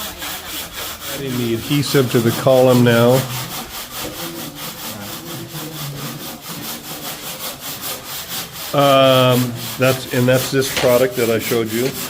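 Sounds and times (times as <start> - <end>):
hand saw rasping: 0.0 - 12.0.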